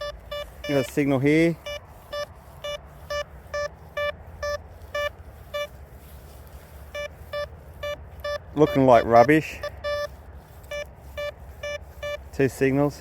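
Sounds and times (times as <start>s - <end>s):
metal detector beeping: 0.0s - 5.8s, 6.8s - 13.0s.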